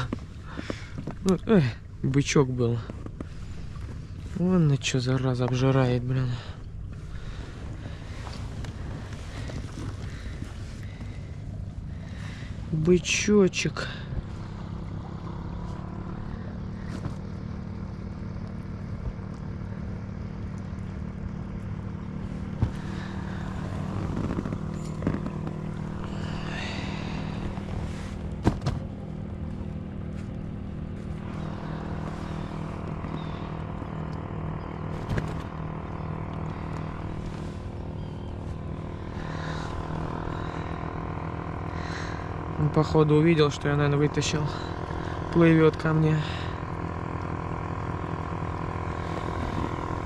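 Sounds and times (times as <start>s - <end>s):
motorboat engine drone: 0.0s - 50.0s.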